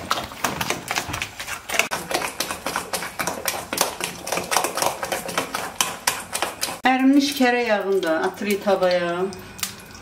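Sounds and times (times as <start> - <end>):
batter squelching in a bowl: 0.0 - 10.0.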